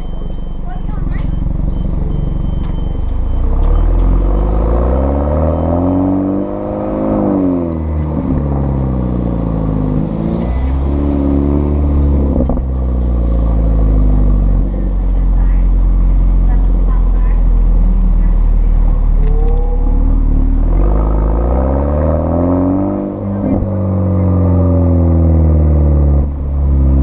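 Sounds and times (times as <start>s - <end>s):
car exhaust accelerating: 0.0s - 27.0s.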